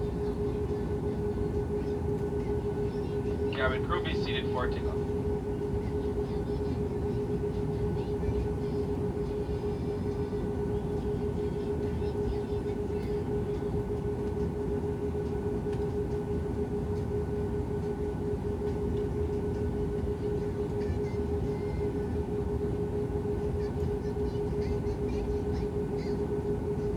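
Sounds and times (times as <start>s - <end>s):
airliner engines humming in cabin: 0.0s - 26.9s.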